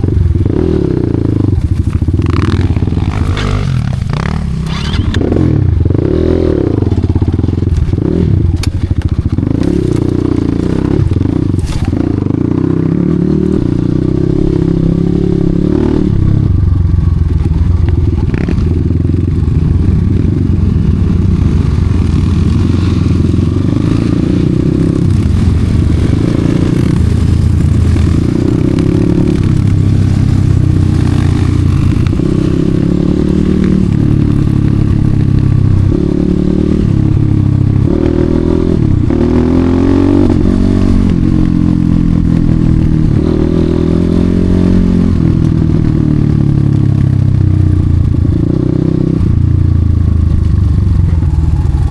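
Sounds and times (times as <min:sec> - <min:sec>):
dirt bike engine revving: 0:00.0 - 0:49.5.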